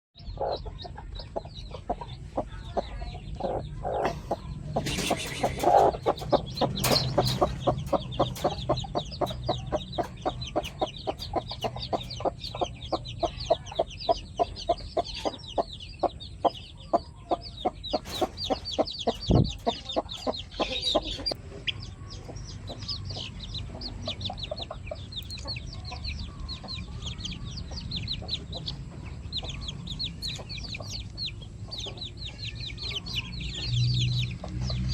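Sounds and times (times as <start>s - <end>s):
chickens clucking: 0.2s - 34.9s
high-pitched bird calls: 0.2s - 34.9s.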